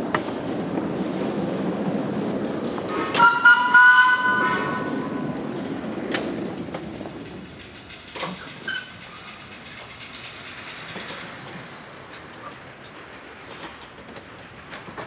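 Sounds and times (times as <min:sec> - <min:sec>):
train engine hissing: 0:00.0 - 0:13.8.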